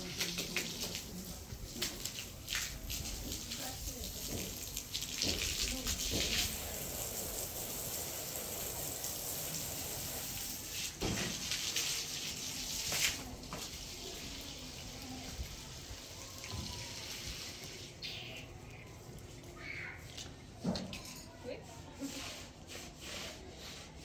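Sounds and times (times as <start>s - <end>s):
water running: 0.0s - 20.6s.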